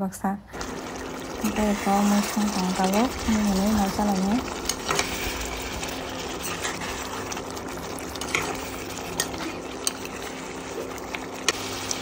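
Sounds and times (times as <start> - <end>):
sauce sizzling in a wok: 0.5 - 12.0
spoon stirring thick curry: 1.1 - 12.0.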